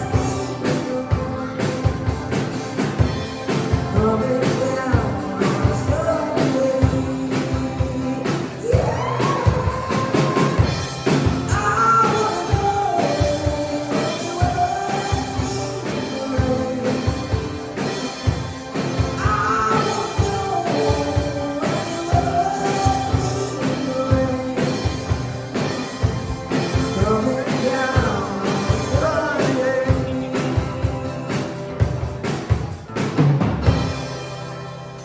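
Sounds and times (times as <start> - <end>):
rock song with singing: 0.0 - 35.0.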